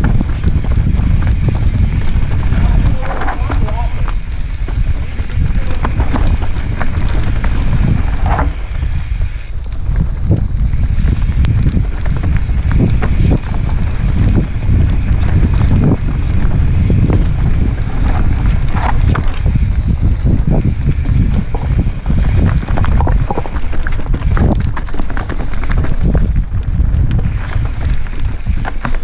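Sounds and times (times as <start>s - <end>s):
bike tyres knocking over rocks: 0.0s - 29.0s
wind rumble on microphone: 0.0s - 29.0s.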